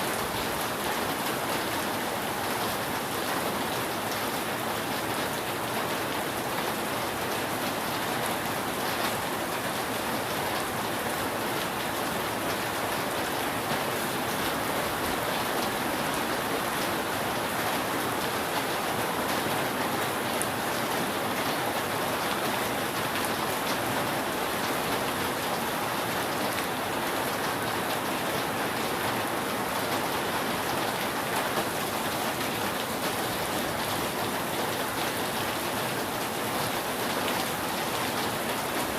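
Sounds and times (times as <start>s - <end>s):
rain falling on a roof: 0.0s - 38.9s.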